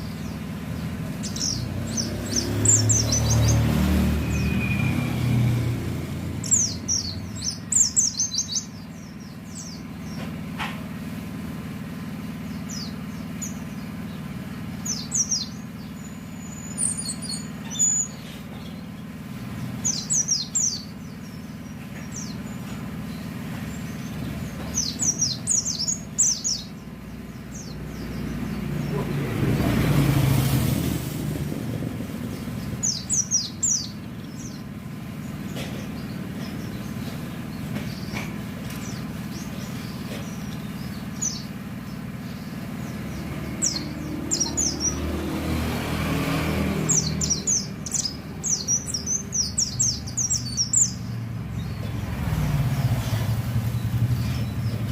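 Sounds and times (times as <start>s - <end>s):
vehicle passing: 0.0s - 9.9s, 11.0s - 54.9s
bird chirping in quick bursts: 0.0s - 10.2s, 12.4s - 19.0s, 19.8s - 31.2s, 32.3s - 38.2s, 38.8s - 45.6s, 46.2s - 54.9s
road traffic hum: 0.0s - 54.9s.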